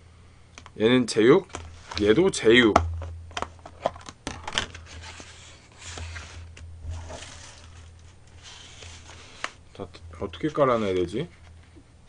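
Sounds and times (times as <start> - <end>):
low steady hum: 0.0 - 12.0
soft handling noise: 1.4 - 12.0.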